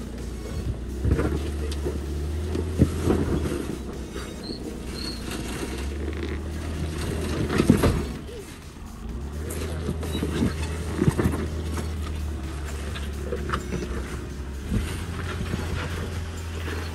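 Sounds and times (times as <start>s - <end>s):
engine rumbling low: 0.0s - 16.9s
tyres grinding against rock: 0.0s - 16.9s.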